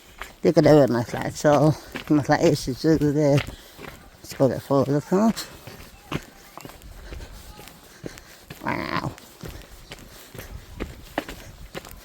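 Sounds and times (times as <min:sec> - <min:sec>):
footsteps on footpath: 0:00.0 - 0:12.0.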